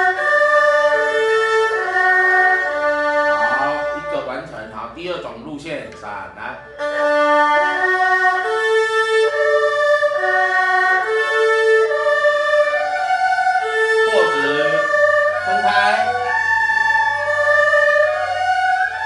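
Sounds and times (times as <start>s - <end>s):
bowed erhu notes: 0.0s - 19.0s.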